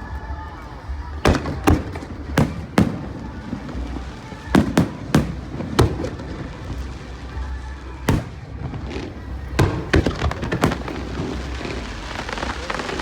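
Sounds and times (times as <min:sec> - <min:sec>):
firework shells bursting: 0:01.2 - 0:13.0.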